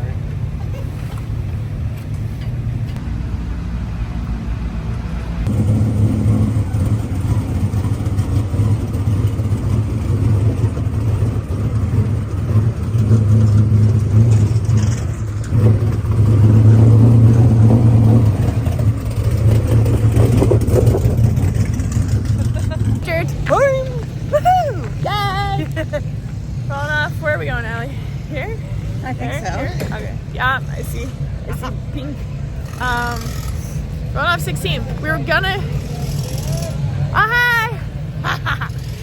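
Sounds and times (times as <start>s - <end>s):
race car engines running: 0.0s - 39.0s.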